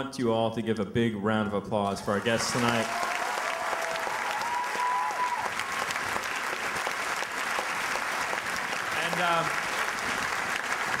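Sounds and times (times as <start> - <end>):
audience applauding: 2.1 - 11.0
audience cheering: 2.1 - 11.0.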